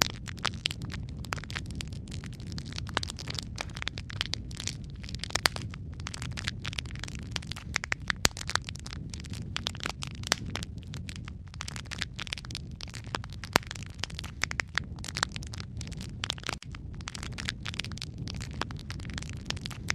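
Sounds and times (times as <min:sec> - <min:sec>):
wood fire crackling and popping: 0:00.0 - 0:19.9.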